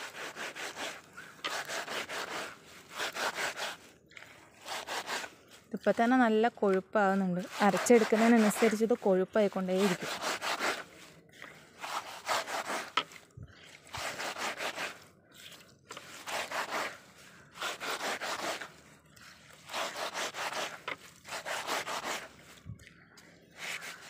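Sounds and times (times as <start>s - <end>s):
leaves scrubbed against stone: 0.0s - 22.6s, 23.5s - 24.0s.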